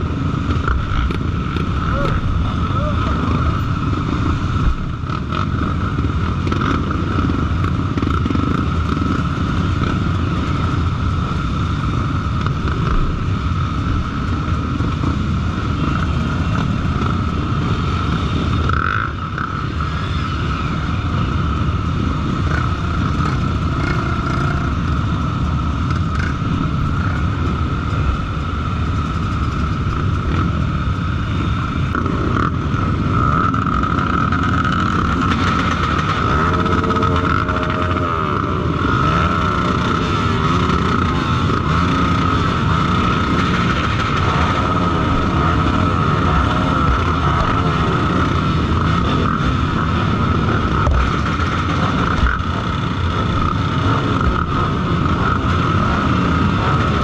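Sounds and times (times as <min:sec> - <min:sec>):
vehicle engine rumbling with whine: 0:00.0 - 0:57.0.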